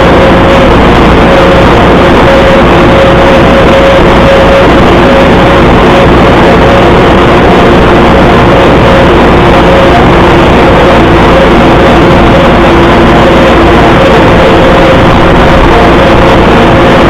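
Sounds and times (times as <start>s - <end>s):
steady engine whine: 0.0s - 17.0s
tractor diesel engine running: 0.0s - 17.0s.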